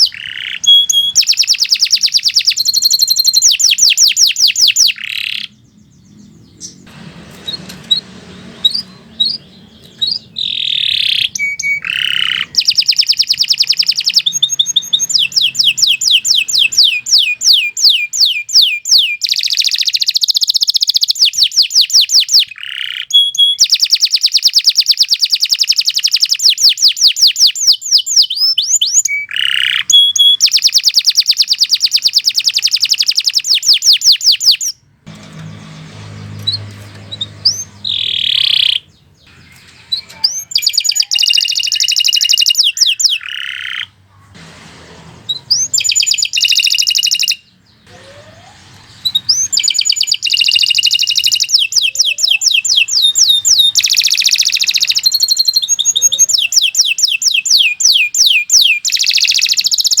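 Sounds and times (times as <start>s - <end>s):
canary singing trills: 0.0s - 44.3s, 45.3s - 60.0s.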